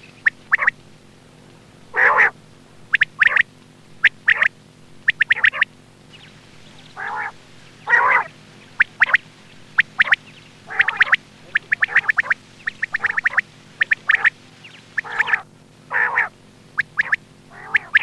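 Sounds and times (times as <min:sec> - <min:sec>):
quail calling: 0:00.0 - 0:00.8, 0:01.9 - 0:18.0
raspy quail calls: 0:00.0 - 0:00.8, 0:01.9 - 0:18.0
low hum: 0:00.0 - 0:18.0.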